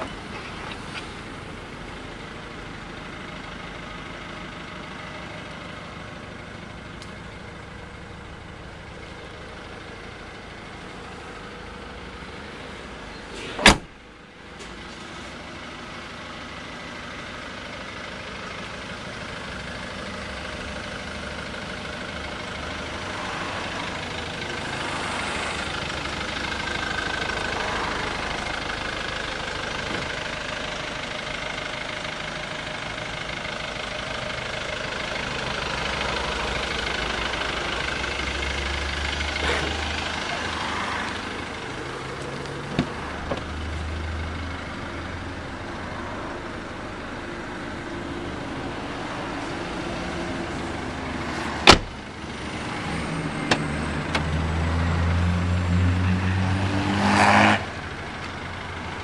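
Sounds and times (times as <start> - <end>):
vehicle engine running: 0.0 - 56.9, 57.6 - 59.0.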